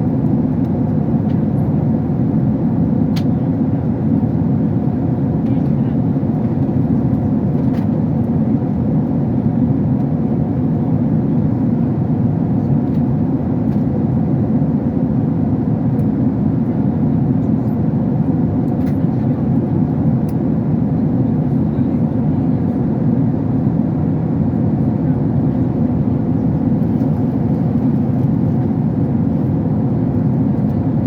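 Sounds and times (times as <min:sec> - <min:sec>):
airliner cabin engine noise: 0:00.0 - 0:31.0.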